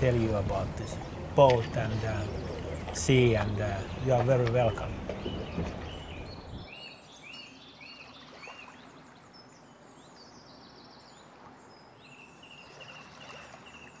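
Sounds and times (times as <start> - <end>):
birds singing: 0.0 - 14.0
faint outdoor hiss: 0.0 - 14.0.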